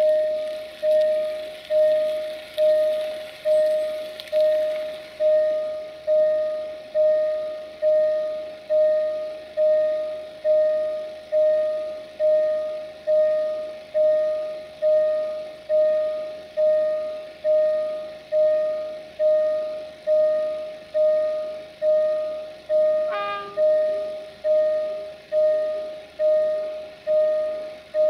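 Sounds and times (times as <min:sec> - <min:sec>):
level crossing warning bell: 0:00.0 - 0:28.0.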